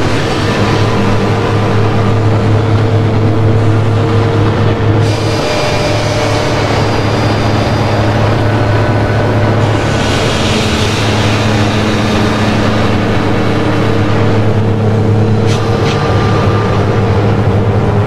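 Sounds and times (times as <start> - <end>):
dense rumbling drone: 0.0 - 18.0
low hum: 0.0 - 18.0.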